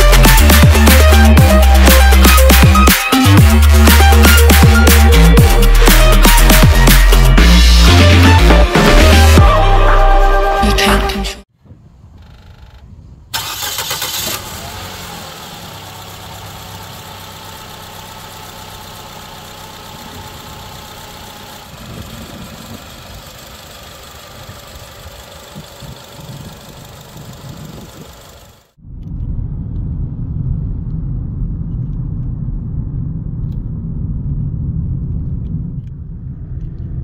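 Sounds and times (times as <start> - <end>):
car engine starting and idling: 0.0 - 11.0, 12.2 - 37.0.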